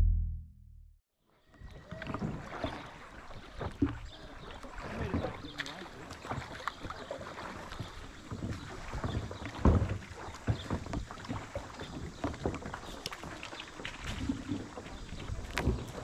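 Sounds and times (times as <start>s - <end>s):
water lapping against a kayak: 1.4s - 16.0s.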